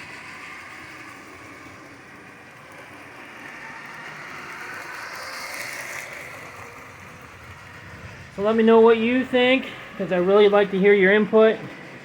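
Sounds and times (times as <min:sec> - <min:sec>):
toy trains whirring on track: 0:00.0 - 0:12.0.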